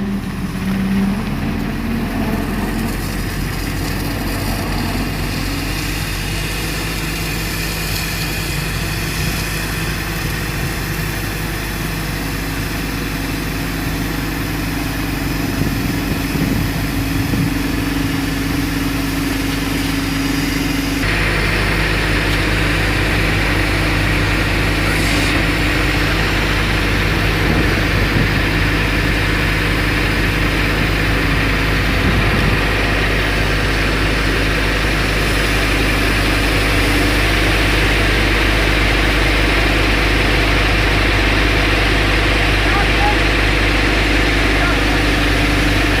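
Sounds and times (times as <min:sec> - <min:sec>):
fire engine idling: 0:00.0 - 0:46.0.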